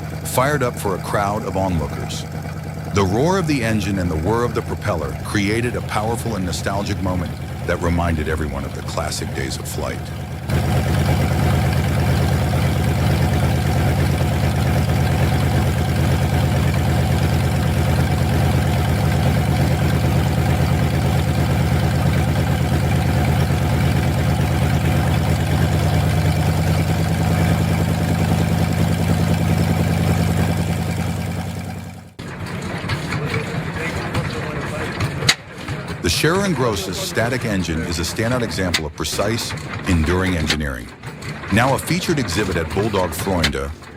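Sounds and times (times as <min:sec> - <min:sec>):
radial aero engine running: 0:00.0 - 0:43.9.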